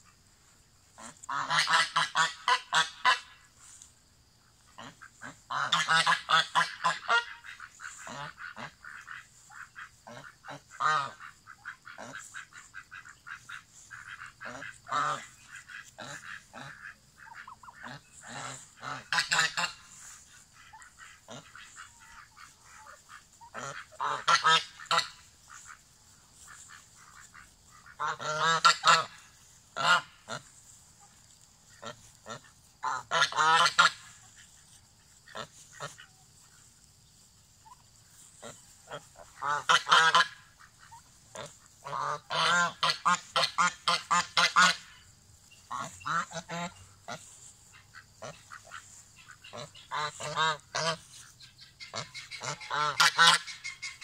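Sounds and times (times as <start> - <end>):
geese honking: 0.8 - 3.9, 4.5 - 54.0.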